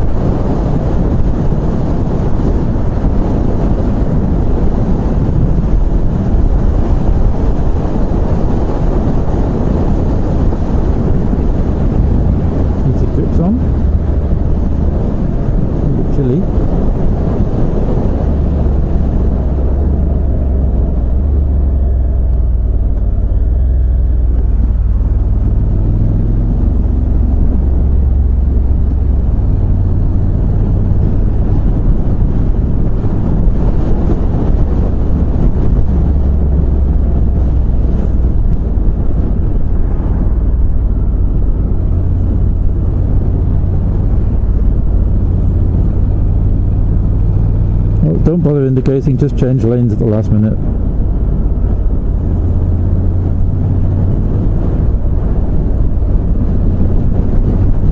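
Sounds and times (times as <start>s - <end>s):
motorcycle engine drone: 0.0s - 57.9s
wind rumble in helmet: 0.0s - 57.9s.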